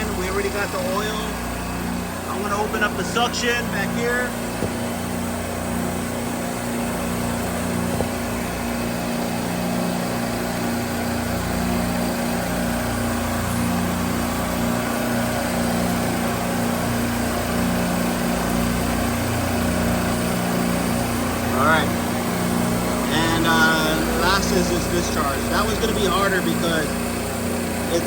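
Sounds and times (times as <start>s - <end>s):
refrigeration compressors humming: 0.0s - 28.0s.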